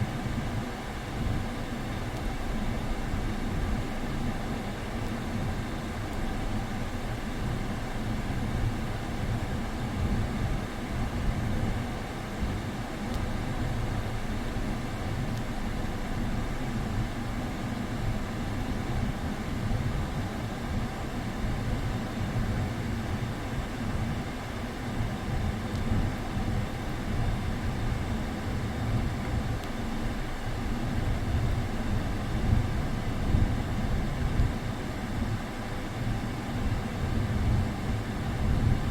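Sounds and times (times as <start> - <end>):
car engine and air conditioning drone: 0.0 - 38.9.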